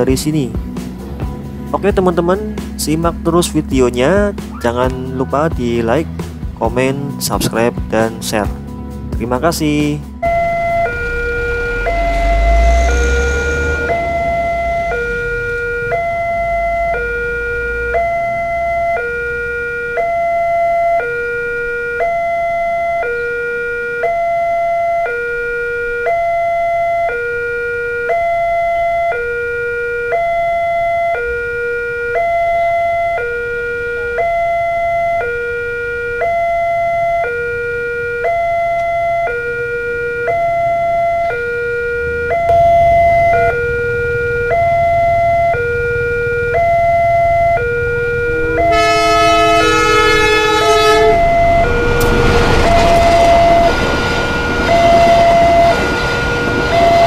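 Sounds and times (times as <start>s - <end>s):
two-tone electronic warning chime: 10.2s - 57.0s.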